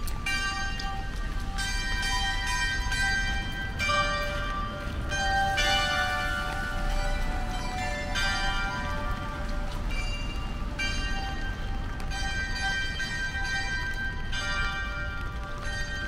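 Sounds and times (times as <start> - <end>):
bells chiming: 0.0 - 16.0.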